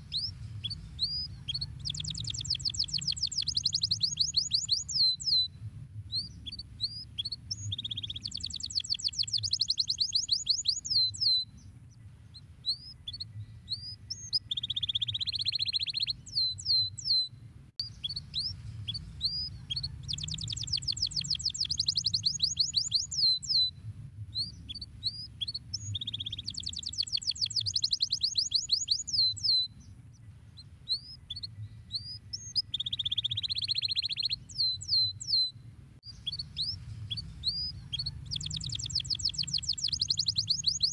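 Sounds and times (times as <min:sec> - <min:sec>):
canary singing trills: 0:00.0 - 0:05.5, 0:06.1 - 0:23.7, 0:24.3 - 0:40.9
faint low hum: 0:00.0 - 0:40.9.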